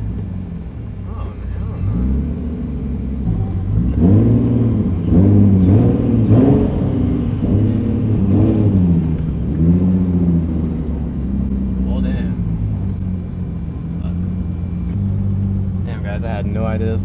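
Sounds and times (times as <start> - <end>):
car engines revving: 0.0 - 17.0
engine idling: 0.0 - 17.0.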